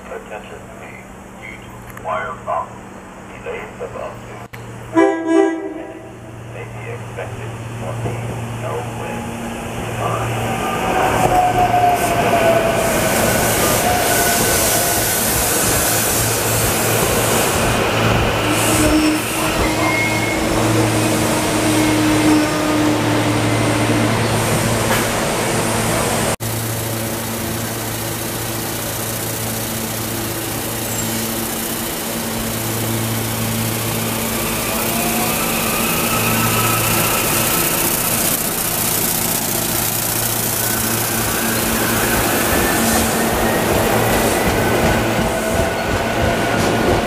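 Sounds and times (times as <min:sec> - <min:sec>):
wheels rumbling on rail: 0:00.0 - 0:47.0
electric train passing: 0:00.1 - 0:47.0.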